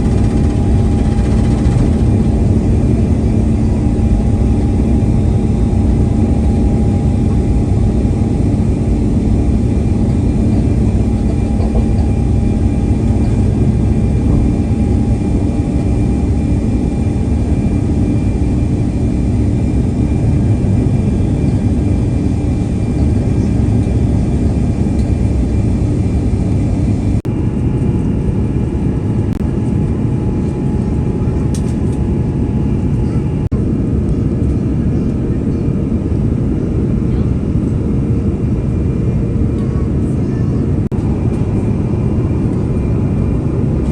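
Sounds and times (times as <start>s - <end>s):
jet engine cabin rush: 0.0s - 43.9s.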